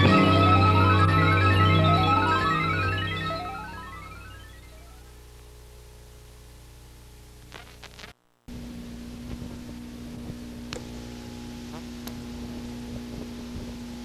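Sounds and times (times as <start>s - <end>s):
crackles: 0.0s - 13.9s
electrical hum: 0.0s - 14.0s
tape hiss: 0.0s - 14.0s.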